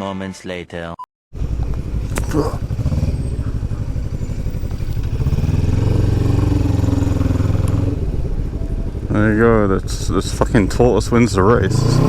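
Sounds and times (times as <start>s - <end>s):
motorcycle engine running: 1.3s - 12.0s.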